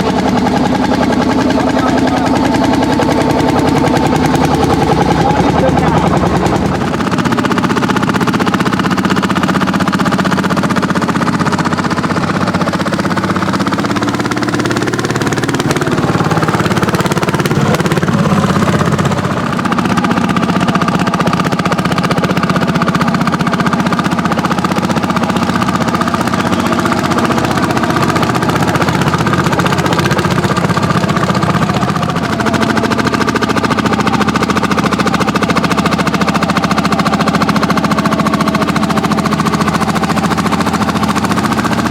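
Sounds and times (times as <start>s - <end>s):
tractor engines thudding: 0.0s - 41.9s.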